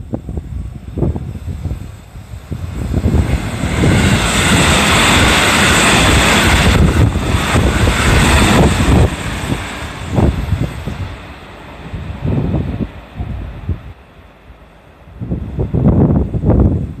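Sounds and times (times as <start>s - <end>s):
electric train passing on rails: 0.0s - 17.0s
wind buffeting microphone: 0.0s - 17.0s.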